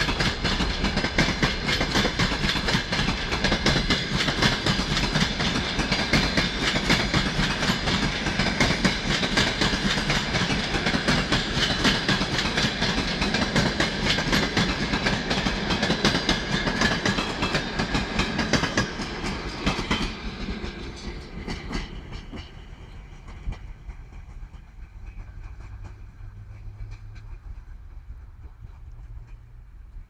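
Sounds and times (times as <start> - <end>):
train wheels clacking over joints: 0.0 - 30.0.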